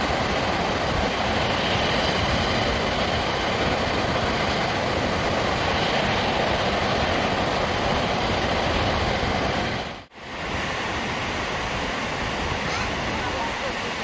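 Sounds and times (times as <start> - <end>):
water rushing down dam: 0.0 - 14.0.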